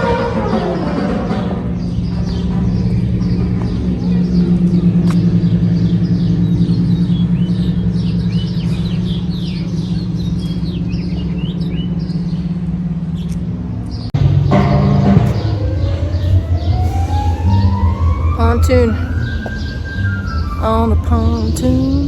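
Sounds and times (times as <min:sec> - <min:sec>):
loud low hum: 0:00.0 - 0:22.0
small birds chirping: 0:01.8 - 0:22.0.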